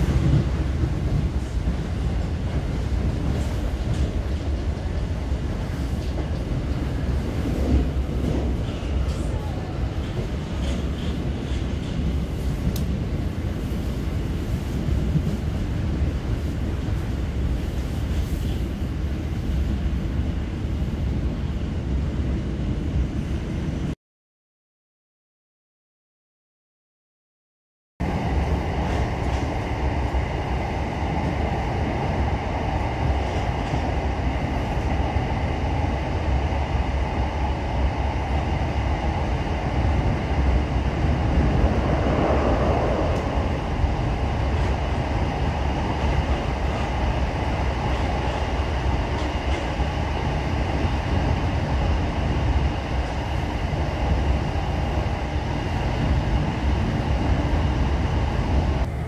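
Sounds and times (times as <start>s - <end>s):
train wheels rumbling on rail: 0.0s - 24.0s, 28.0s - 59.0s.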